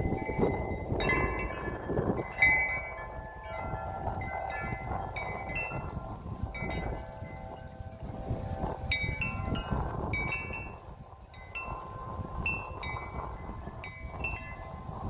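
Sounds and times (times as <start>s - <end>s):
wind chimes ringing: 0.0s - 15.0s
wind rumble on microphone: 0.0s - 15.0s.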